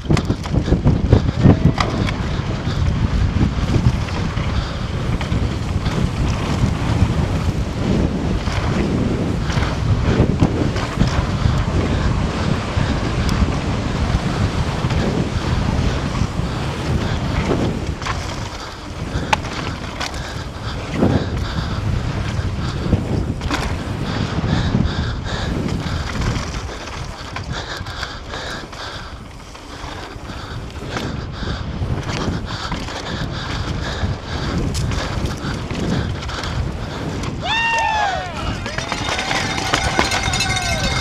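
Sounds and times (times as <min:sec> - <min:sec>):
bike clicks and rattles: 0:00.0 - 0:41.0
tyres rumbling on dirt trail: 0:00.0 - 0:41.0
wind buffeting microphone: 0:00.0 - 0:41.0.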